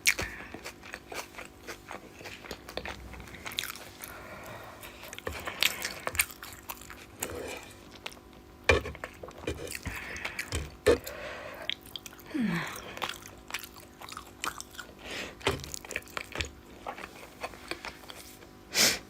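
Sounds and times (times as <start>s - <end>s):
close chewing with mouth clicks: 0.0s - 18.6s.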